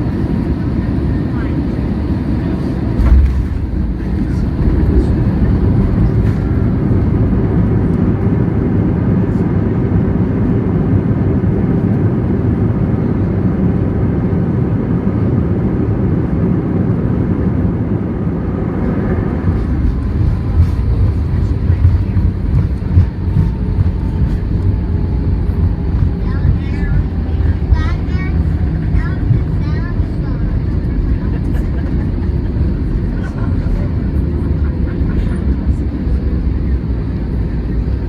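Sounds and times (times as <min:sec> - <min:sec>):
airplane engine rumble in cabin: 0:00.0 - 0:38.0.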